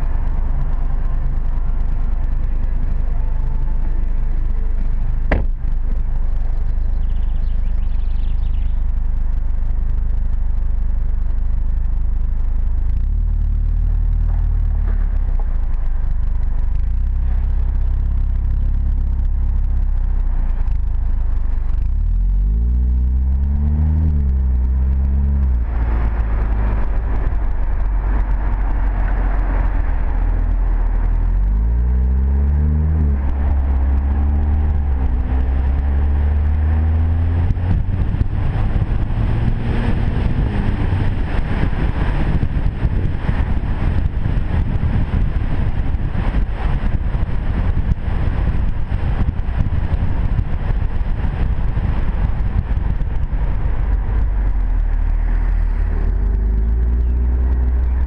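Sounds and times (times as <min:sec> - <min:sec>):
car exhaust revving: 0:00.0 - 0:58.0
wind and tyre rushing noise: 0:11.3 - 0:58.0.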